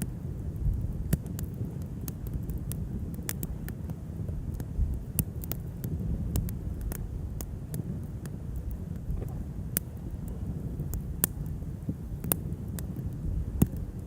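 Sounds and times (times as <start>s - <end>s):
campfire crackling and popping: 0.0s - 14.0s
low rumble of flame: 0.0s - 14.0s.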